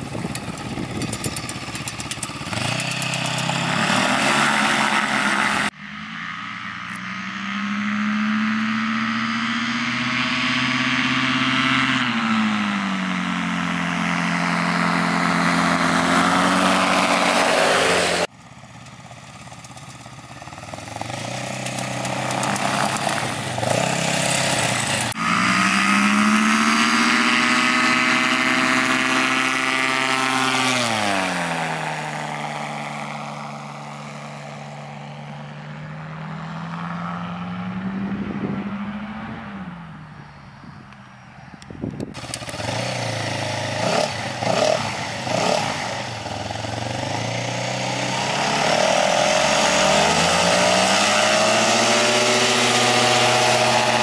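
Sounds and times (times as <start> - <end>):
ultralight plane engine passing: 0.0 - 54.0.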